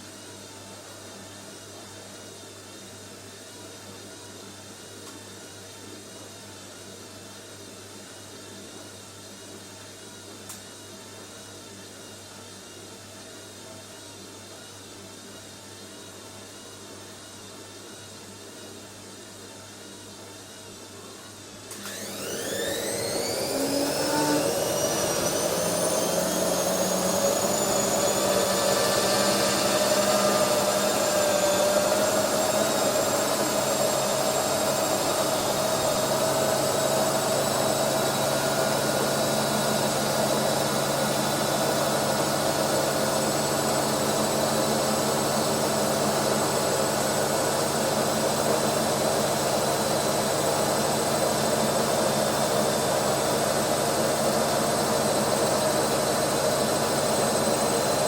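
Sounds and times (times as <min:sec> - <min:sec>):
washing machine spin whine: 0:00.0 - 0:58.0.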